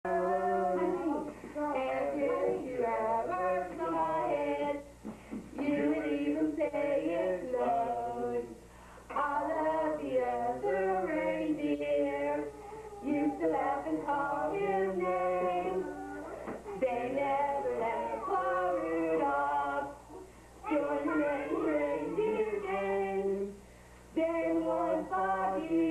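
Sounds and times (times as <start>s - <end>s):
man and woman singing: 0.0s - 20.0s, 20.6s - 25.9s.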